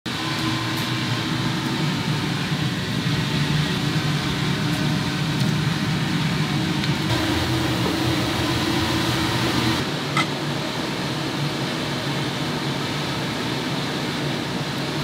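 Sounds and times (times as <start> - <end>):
steady mechanical hum: 0.1 - 15.0.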